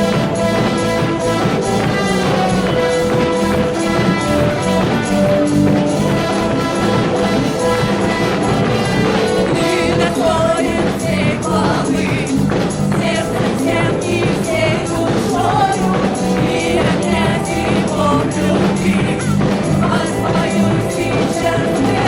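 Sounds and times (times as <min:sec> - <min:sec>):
band with steady beat: 0:00.0 - 0:22.0
group of voices singing: 0:00.0 - 0:22.0.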